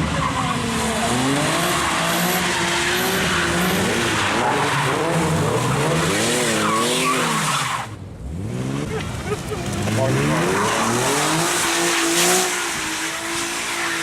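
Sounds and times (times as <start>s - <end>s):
car engine revving hard: 0.0s - 7.5s, 8.2s - 14.0s
tires squealing: 0.0s - 14.0s.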